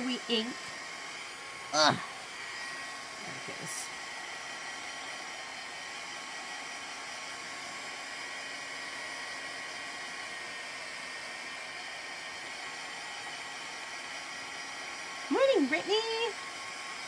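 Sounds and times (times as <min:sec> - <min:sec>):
hot-air dryer blowing: 0:00.0 - 0:17.0.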